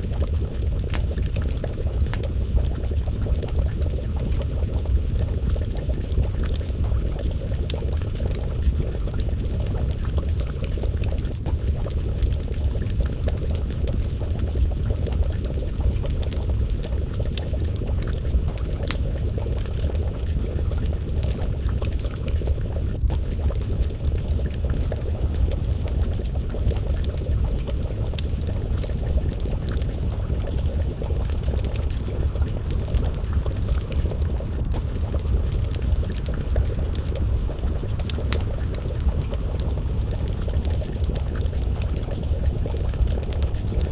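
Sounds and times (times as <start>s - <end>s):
stew simmering and bubbling: 0.0s - 43.9s
wood fire crackling: 0.0s - 43.9s.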